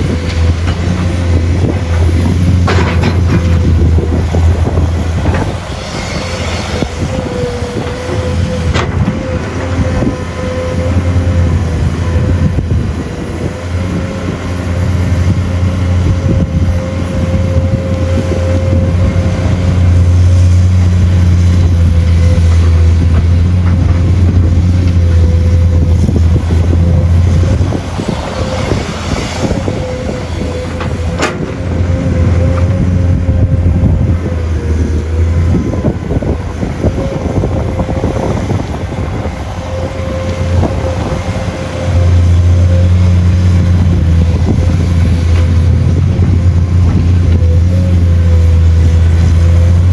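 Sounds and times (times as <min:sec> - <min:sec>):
excavator diesel engine under load: 0:00.0 - 0:49.9.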